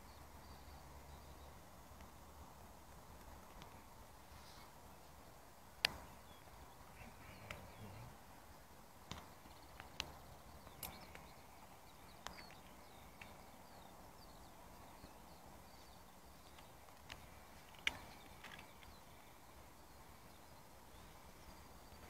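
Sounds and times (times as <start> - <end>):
faint bird chirps: 3.5 - 22.0.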